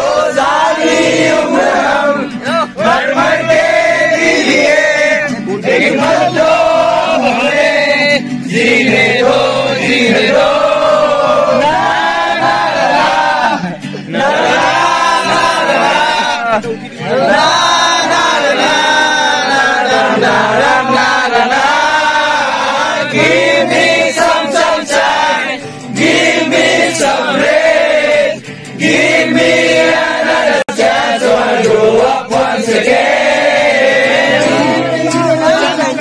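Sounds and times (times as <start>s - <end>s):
group of men singing: 0.0s - 36.0s.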